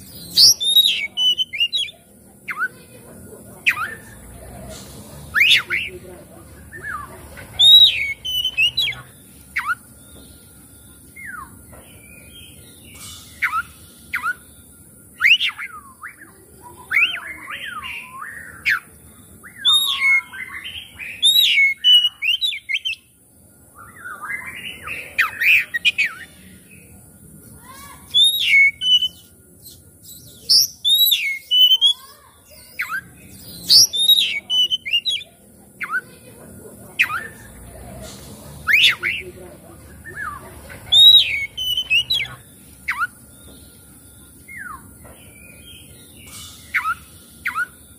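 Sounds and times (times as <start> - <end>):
songbird whistling and chattering: 0.0 - 27.0, 27.6 - 47.9.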